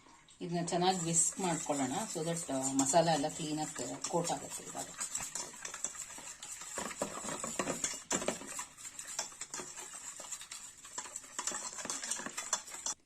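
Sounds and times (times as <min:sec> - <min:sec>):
whisking in a bowl: 0:00.6 - 0:13.0.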